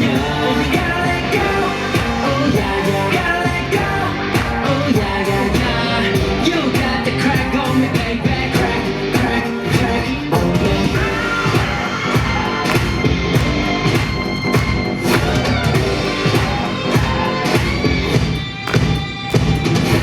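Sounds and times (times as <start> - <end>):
pop dance track with singing: 0.0 - 20.0.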